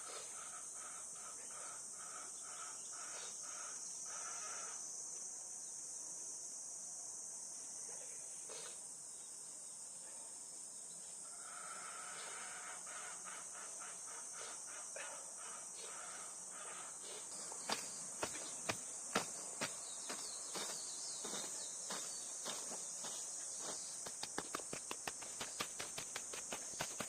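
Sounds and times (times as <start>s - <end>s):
pulsing insect call: 0.0s - 9.3s, 11.1s - 27.0s
chorus of insects: 0.0s - 27.0s.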